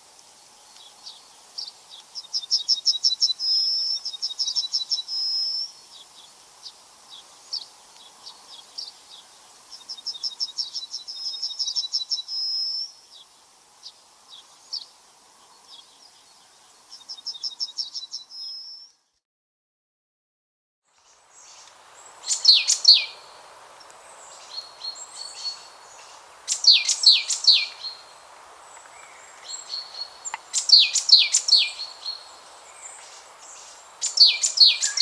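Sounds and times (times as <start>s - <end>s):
songbird singing: 0.1s - 19.2s, 20.9s - 35.0s.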